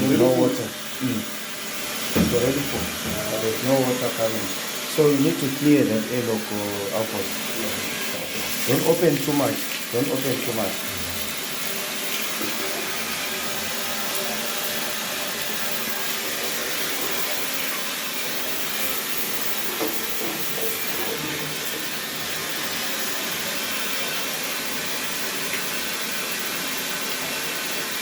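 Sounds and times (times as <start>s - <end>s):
water rushing through pipes: 0.0s - 28.0s.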